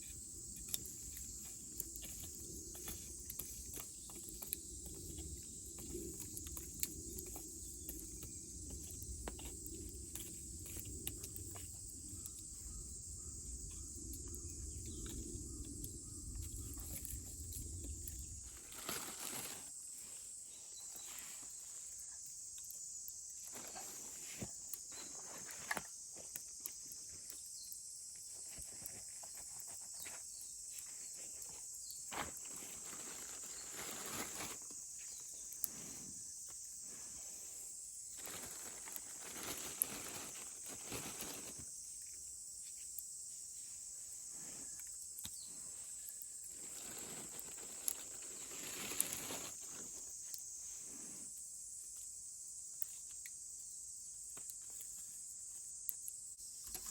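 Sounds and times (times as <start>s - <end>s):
insects chorus: 0.0s - 56.9s.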